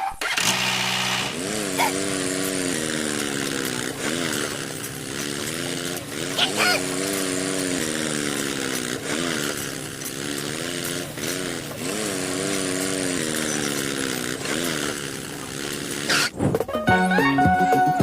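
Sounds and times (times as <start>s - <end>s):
small tractor motor running: 0.0s - 18.0s.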